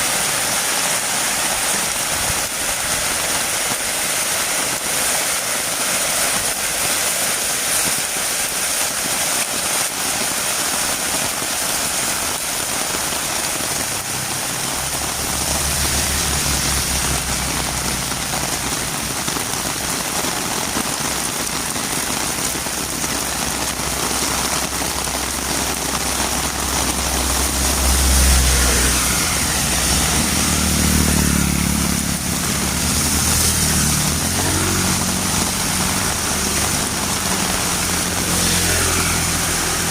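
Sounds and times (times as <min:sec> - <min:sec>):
heavy rain on road: 0:00.0 - 0:39.9.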